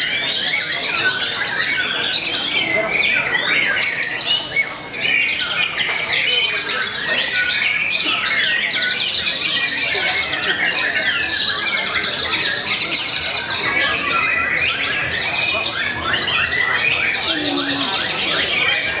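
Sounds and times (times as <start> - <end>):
chorus of songbirds singing: 0.0 - 19.0.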